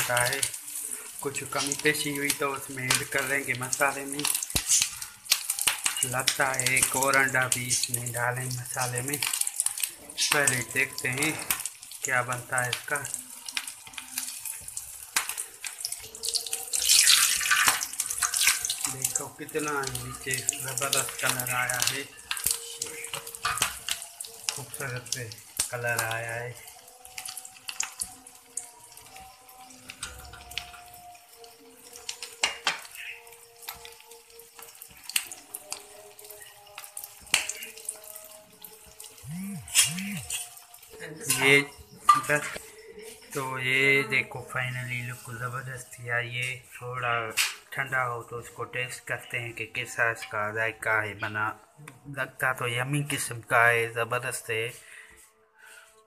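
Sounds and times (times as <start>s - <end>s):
kebab sizzling in hot oil: 0.0s - 56.0s.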